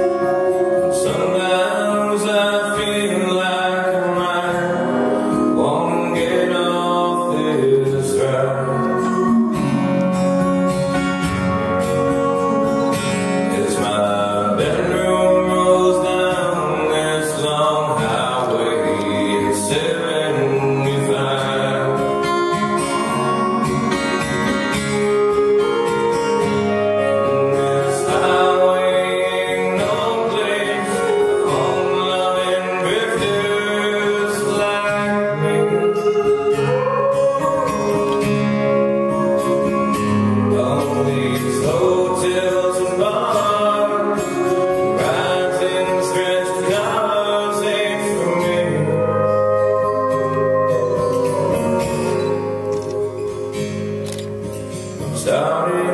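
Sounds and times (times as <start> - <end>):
man singing: 0.0 - 10.5, 13.3 - 23.6, 26.9 - 52.9, 55.0 - 55.9
strummed acoustic guitar: 0.0 - 55.9.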